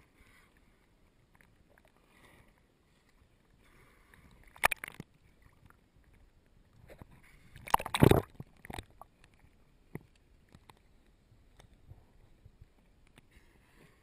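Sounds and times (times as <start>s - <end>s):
sea water splashing: 0.0s - 11.6s.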